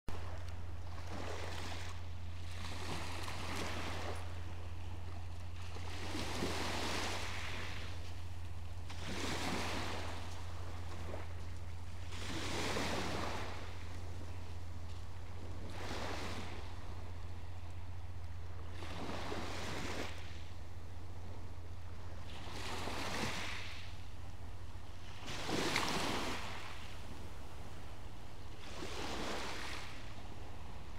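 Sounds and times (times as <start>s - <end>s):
small waves breaking on shore: 0.1s - 30.9s
steady low hum: 0.1s - 30.9s.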